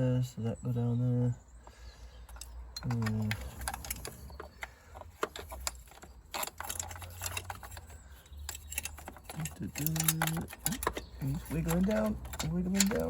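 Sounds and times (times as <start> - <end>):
pipe clicking and scraping: 2.2 - 13.0.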